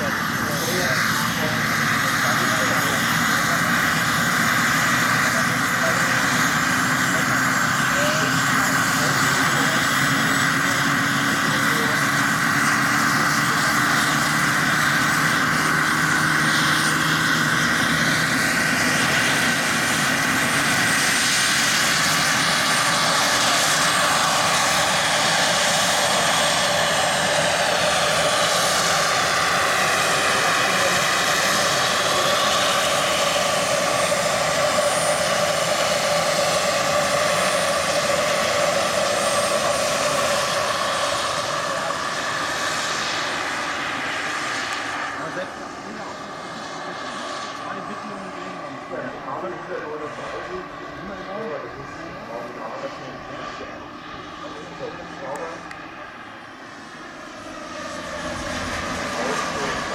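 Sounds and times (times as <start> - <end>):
model helicopter whine and rotor: 0.0 - 59.9.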